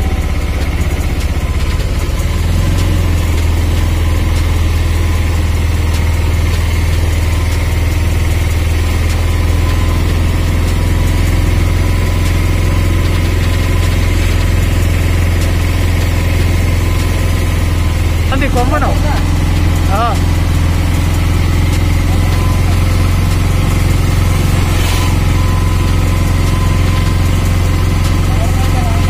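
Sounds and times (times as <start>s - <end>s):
vehicle engine hum from inside: 0.0s - 29.0s.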